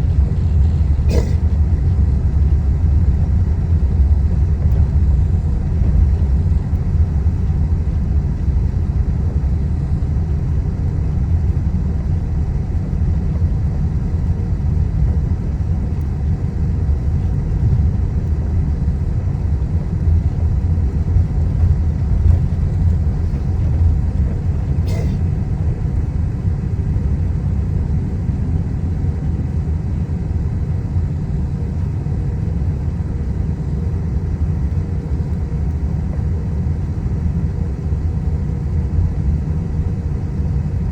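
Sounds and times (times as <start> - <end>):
airliner taxiing rumble: 0.0 - 40.9.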